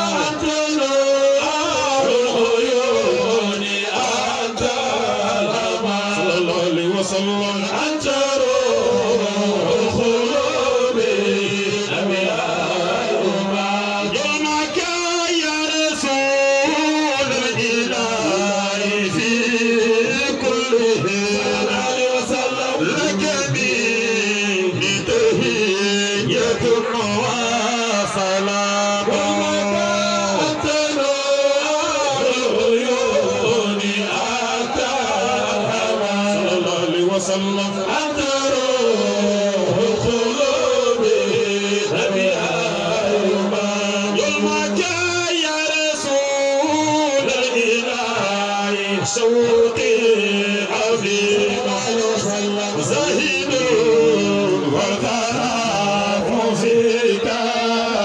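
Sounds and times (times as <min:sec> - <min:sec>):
men chanting devotional song: 0:00.0 - 0:58.0.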